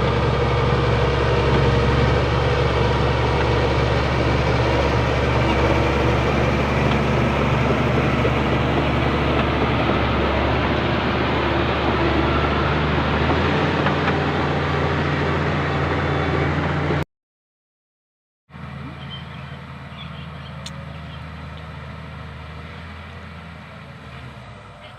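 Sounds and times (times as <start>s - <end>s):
bulldozer diesel engine running: 0.0s - 17.0s, 18.5s - 24.9s.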